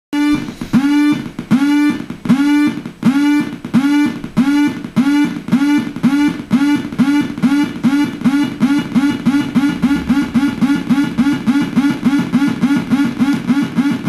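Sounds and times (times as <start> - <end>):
swooping buzzy synthesizer notes: 0.2 - 14.0.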